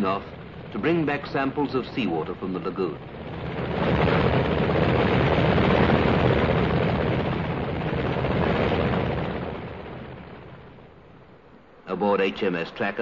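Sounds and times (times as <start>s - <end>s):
helicopter engine and rotor: 0.0s - 11.3s.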